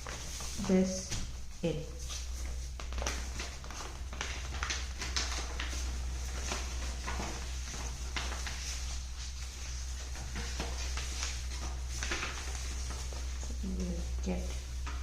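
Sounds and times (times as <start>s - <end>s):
paper rustling and crinkling: 0.0s - 1.4s, 2.0s - 15.0s.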